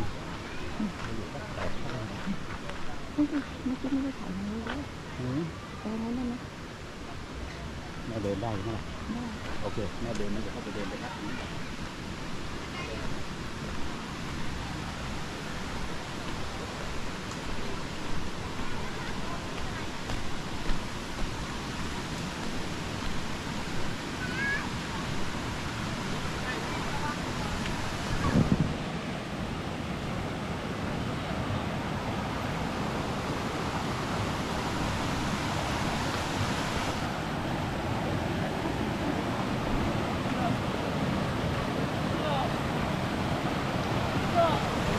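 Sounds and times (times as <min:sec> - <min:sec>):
waterfall rushing: 0:06.4 - 0:44.9.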